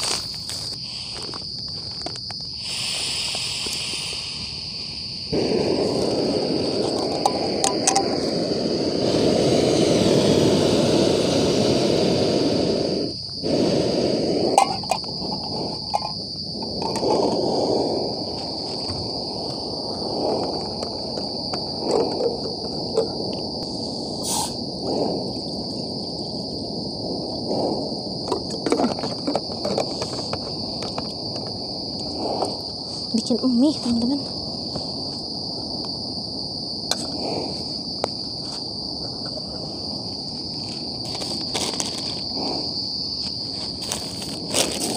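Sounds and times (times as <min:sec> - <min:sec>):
crickets chirring: 0:00.0 - 0:44.9
gas stove hissing: 0:02.5 - 0:44.9.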